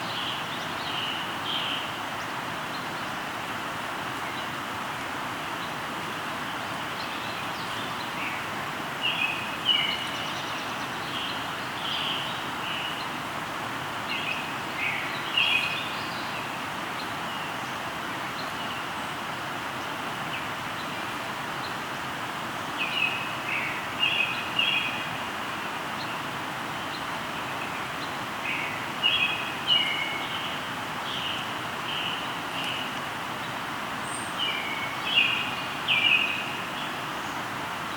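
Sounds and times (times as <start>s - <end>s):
river rushing: 0.0s - 37.9s
songbirds chirping: 0.0s - 37.9s.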